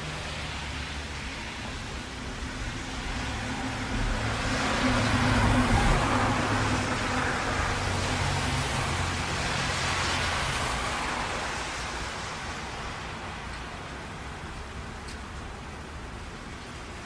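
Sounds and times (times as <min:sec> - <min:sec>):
tyres hissing on wet road: 0:00.0 - 0:17.0.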